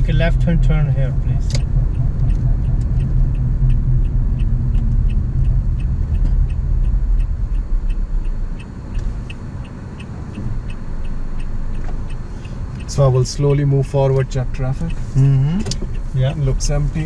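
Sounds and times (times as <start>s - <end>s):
low rumble of car moving: 0.0s - 17.0s
turn-signal indicator ticking: 0.0s - 17.0s.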